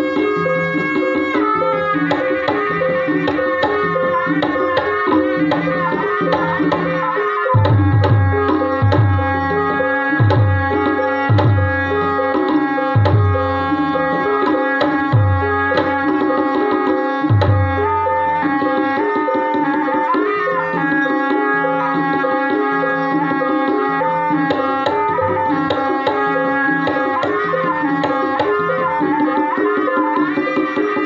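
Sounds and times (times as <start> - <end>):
gamelan tuned percussion melody: 0.0 - 31.0.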